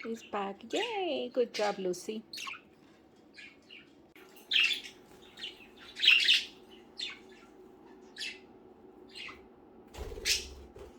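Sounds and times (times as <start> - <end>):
budgerigars squawking and chirping: 0.0 - 8.5, 9.1 - 9.5, 10.1 - 10.6.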